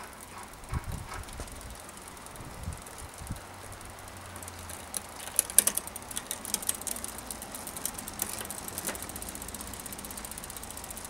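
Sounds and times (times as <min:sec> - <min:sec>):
bicycle chain clicking on sprockets: 0:00.0 - 0:11.0
freehub ticking: 0:00.0 - 0:11.0.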